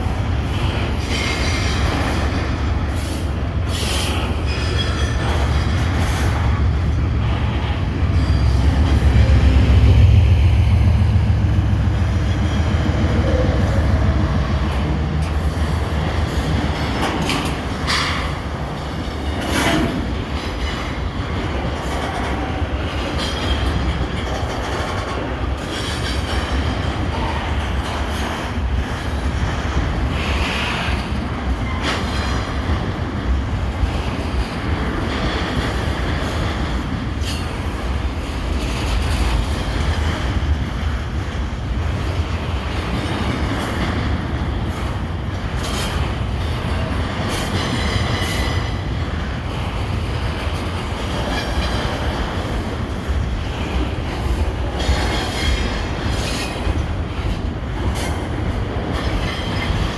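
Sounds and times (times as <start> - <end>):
rail joint clicks: 0.0 - 59.9
train wheels rumbling on rail: 0.0 - 59.9.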